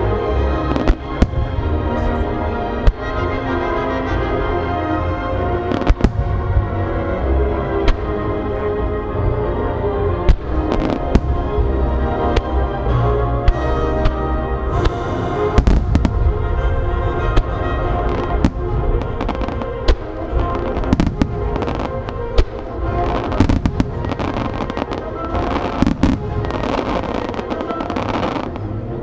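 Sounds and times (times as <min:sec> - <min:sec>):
music playing: 0:00.0 - 0:29.0
fireworks bursting: 0:00.6 - 0:04.6, 0:05.4 - 0:07.2, 0:07.8 - 0:08.3, 0:10.2 - 0:12.8, 0:13.4 - 0:28.8.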